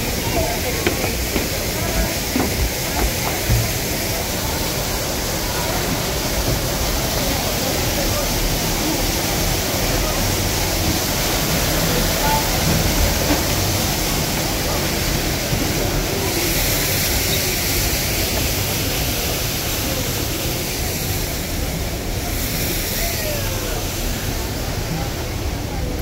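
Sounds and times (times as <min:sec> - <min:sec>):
faint murmur of voices: 0:00.0 - 0:26.0
water rushing through waterfall: 0:00.0 - 0:26.0.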